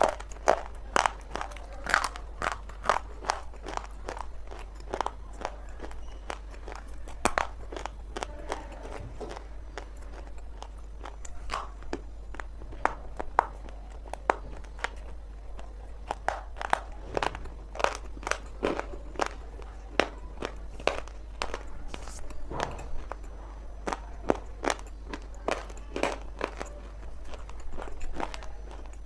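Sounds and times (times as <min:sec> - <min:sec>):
dry clay crunching when chewed: 0:00.0 - 0:29.0.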